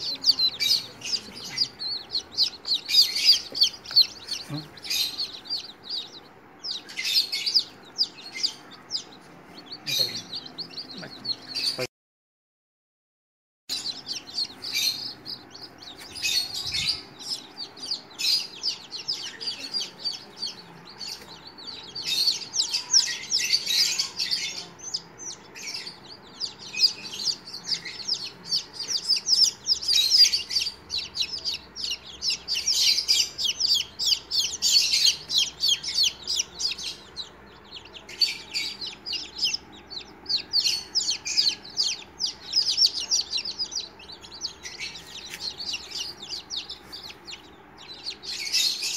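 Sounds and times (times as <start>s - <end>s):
chicks peeping: 0.0s - 11.9s, 13.7s - 48.9s.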